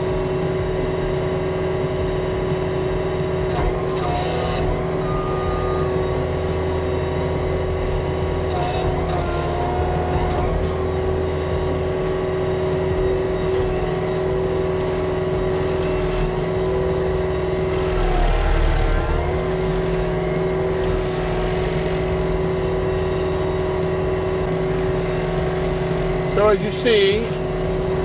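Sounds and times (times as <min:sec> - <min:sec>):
loader engine at full throttle: 0:00.0 - 0:28.0
stump grinder grinding: 0:00.0 - 0:28.0.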